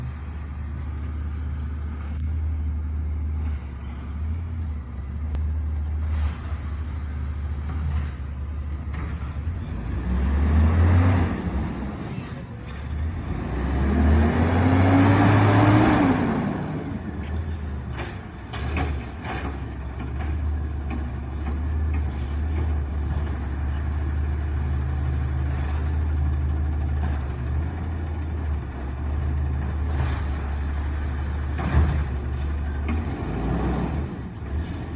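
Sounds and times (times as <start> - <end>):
garbage truck diesel engine: 0.0 - 34.9.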